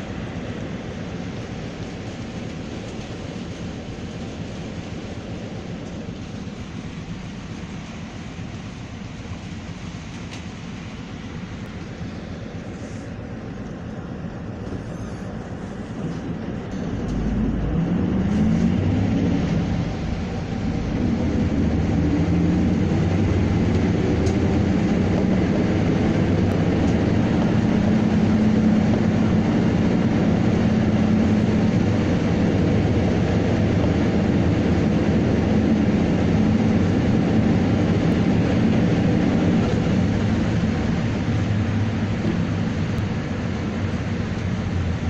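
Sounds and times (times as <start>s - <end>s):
vehicle engine drone: 0.0s - 45.0s.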